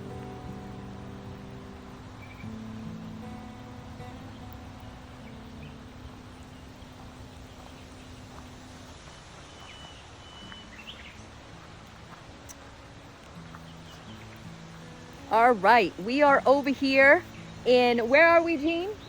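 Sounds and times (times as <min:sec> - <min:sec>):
steady hiss: 0:00.0 - 0:15.9
faint background music: 0:00.0 - 0:19.0.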